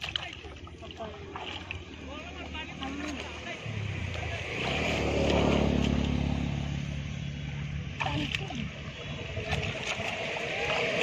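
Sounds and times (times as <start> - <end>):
muddy water sloshing and splashing: 0.0 - 11.0
low engine-like hum: 0.1 - 11.0.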